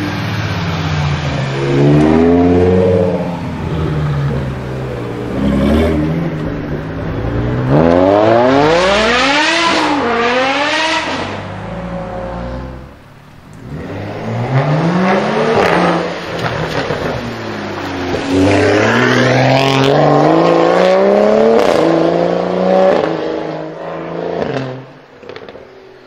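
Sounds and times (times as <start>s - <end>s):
car engine rumbling and revving: 0.0s - 26.0s.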